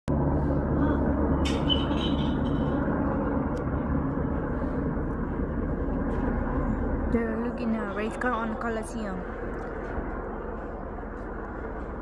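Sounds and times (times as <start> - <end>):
helicopter rotor rumble: 0.1 - 12.0.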